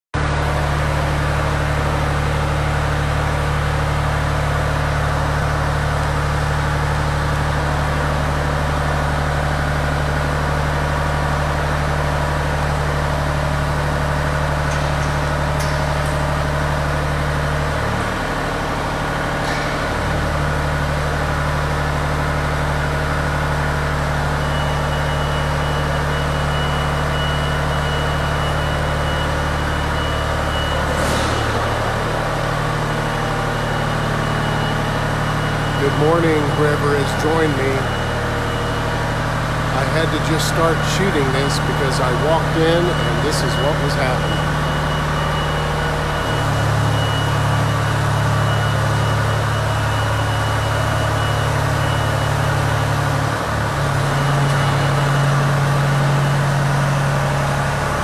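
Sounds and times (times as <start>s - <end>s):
boom lift engine humming: 0.2s - 58.0s.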